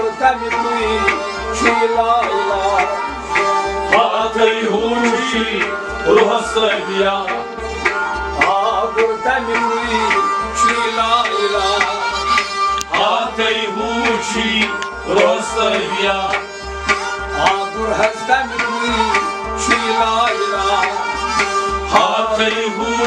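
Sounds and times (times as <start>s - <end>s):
voices singing devotional song: 0.0s - 3.2s, 3.9s - 12.3s, 12.9s - 23.0s
held instrumental notes: 0.0s - 23.0s
hand drum beat: 0.3s - 23.0s.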